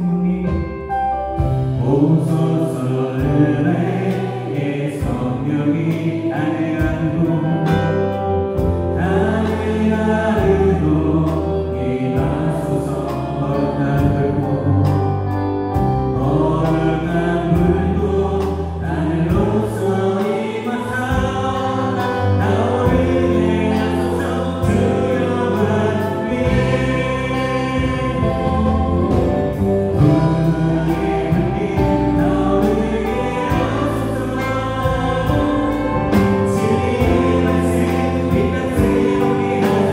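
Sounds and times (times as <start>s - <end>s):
drum kit: 0.0s - 11.5s, 14.0s - 39.9s
electric bass: 0.0s - 39.9s
electric guitar: 0.0s - 39.9s
keyboard: 0.0s - 39.9s
person singing: 0.0s - 39.9s.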